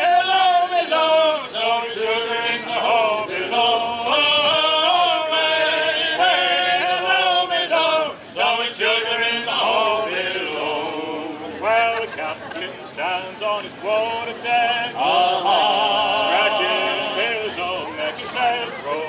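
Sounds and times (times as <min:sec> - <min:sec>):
men singing in harmony: 0:00.0 - 0:19.0.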